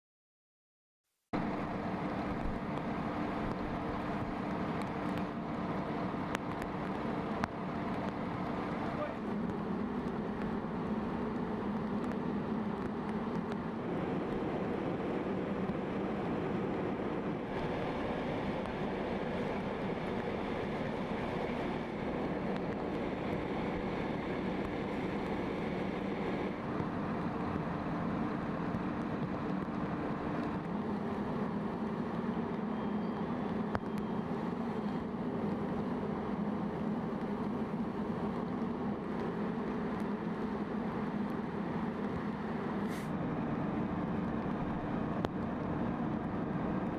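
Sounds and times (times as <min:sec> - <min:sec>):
fire engine drone: 0:01.4 - 0:46.9
rush of house burning: 0:01.4 - 0:46.9.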